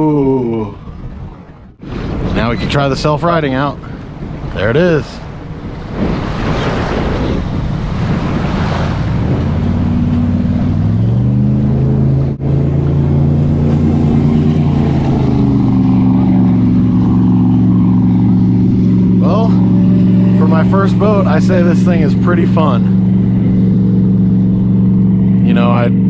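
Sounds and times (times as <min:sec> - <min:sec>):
water: 0:00.0 - 0:26.0
wind: 0:00.0 - 0:26.0
steady motor drone: 0:02.9 - 0:26.0.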